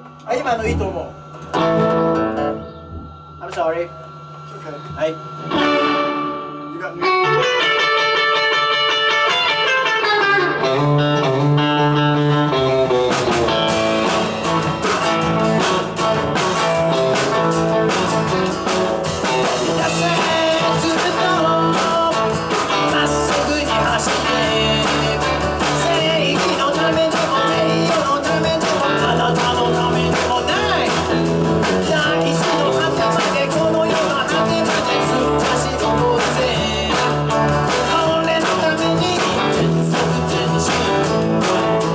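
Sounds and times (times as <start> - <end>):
rock band playing: 0.0 - 3.3, 4.2 - 41.9
drums: 0.0 - 41.9
electric guitar: 0.0 - 41.9.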